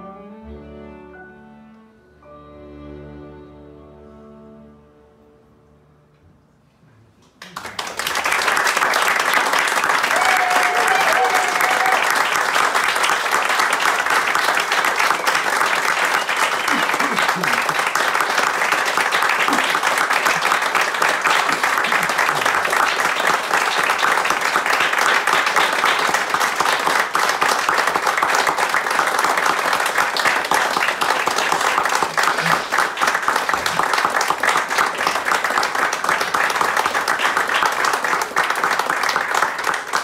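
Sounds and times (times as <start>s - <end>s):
audience applauding: 7.2s - 40.0s.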